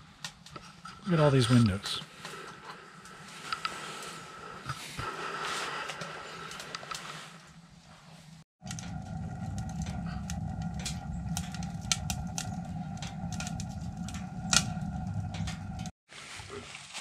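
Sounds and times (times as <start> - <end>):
fire crackling and popping: 0.0 - 7.6, 8.6 - 16.0
fire rumbling: 0.0 - 8.0, 8.6 - 16.0.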